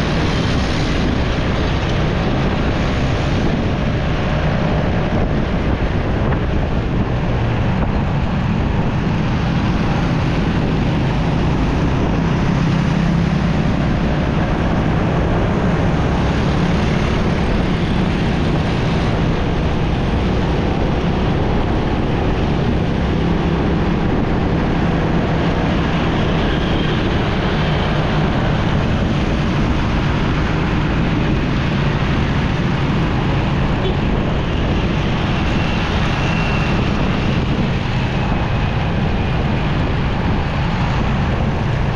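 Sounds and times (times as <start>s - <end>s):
road noise: 0.0s - 41.9s
road traffic: 0.0s - 41.9s
wind rush on microphone: 0.0s - 41.9s.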